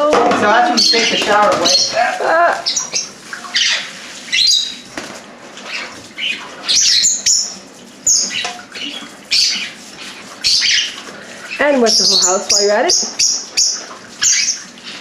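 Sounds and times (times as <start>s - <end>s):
parrot flapping wet wings: 0.5s - 15.0s.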